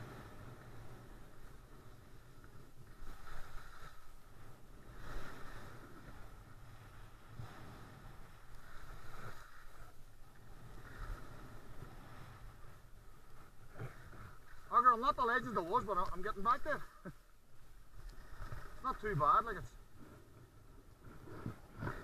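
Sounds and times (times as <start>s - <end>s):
skis scraping on snow: 0.0s - 16.8s, 17.6s - 22.0s.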